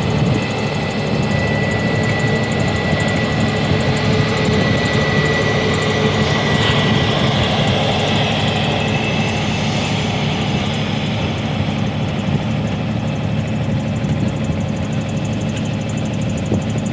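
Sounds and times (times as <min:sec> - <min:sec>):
airflow rushing noise: 0:00.0 - 0:15.5
aeroplane engine whine: 0:00.0 - 0:16.9.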